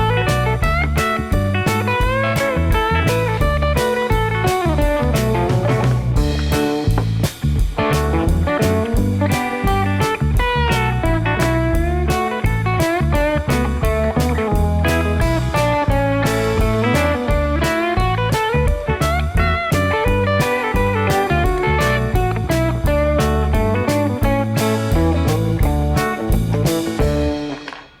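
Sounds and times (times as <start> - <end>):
blues electric guitar music: 0.0 - 28.0.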